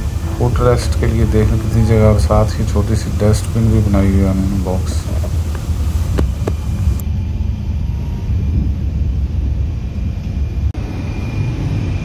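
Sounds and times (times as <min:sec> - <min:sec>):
faint high whine: 0:00.0 - 0:12.0
train rumbling at speed: 0:00.0 - 0:12.0.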